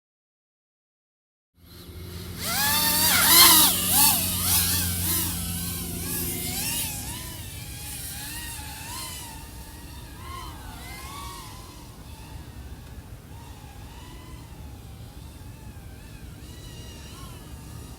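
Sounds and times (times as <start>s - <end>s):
drone motors and propellers whining: 1.6s - 17.9s.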